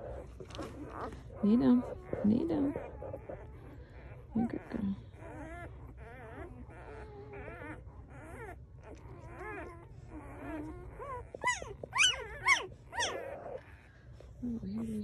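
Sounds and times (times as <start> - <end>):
puppies squeaking and whimpering: 0.0 - 15.0.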